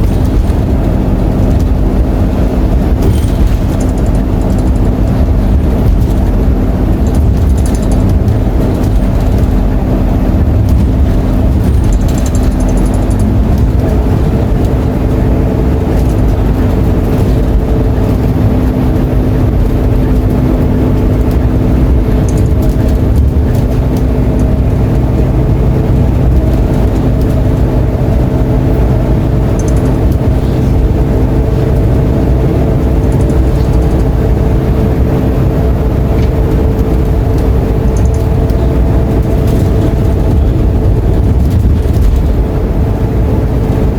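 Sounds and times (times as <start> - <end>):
bus engine low rumble: 0.0 - 43.9.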